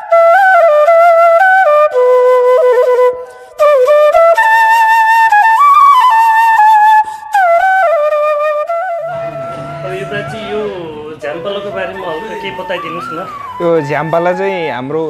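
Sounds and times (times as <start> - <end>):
solo flute melody: 0.0 - 15.0.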